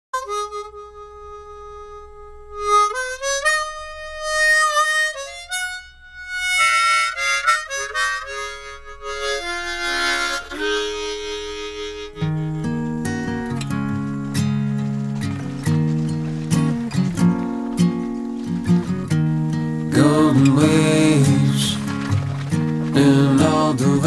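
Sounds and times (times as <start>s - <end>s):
acoustic guitar notes: 0.2s - 24.0s
harmonica playing: 0.2s - 24.0s.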